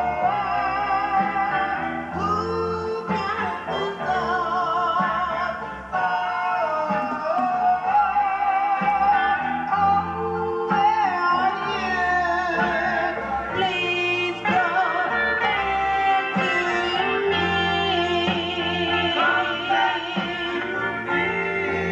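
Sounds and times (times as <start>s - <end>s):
person singing: 0.0s - 21.9s
steady bass line: 0.0s - 21.9s.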